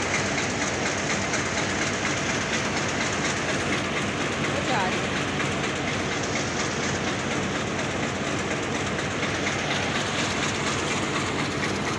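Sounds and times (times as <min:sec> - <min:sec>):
train wheels clattering on rails: 0:00.0 - 0:11.9.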